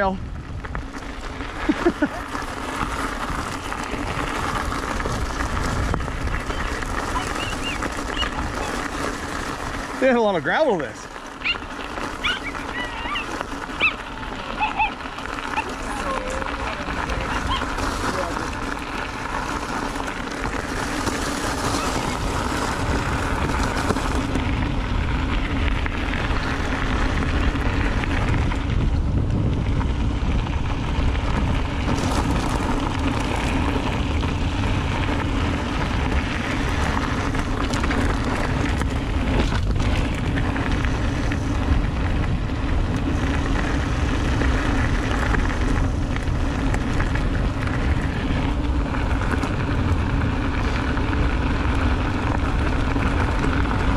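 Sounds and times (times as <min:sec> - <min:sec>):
wind on microphone: 0:00.0 - 0:10.0, 0:11.3 - 0:53.9
bike tyres rolling on gravel: 0:00.0 - 0:53.9.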